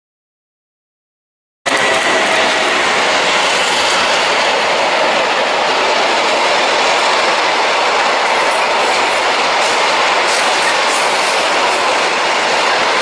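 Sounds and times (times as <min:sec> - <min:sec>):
train passing close by: 0:01.7 - 0:13.0.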